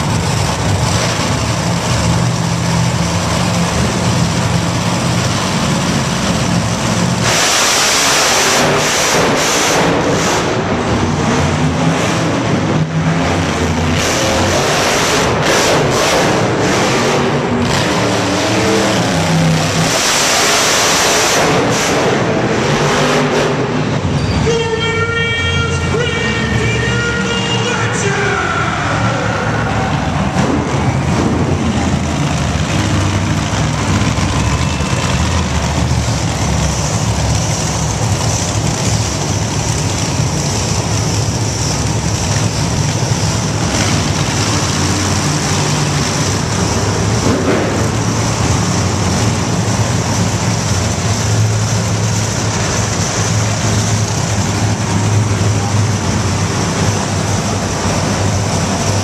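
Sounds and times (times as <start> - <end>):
monster truck engine running: 0.0 - 59.0.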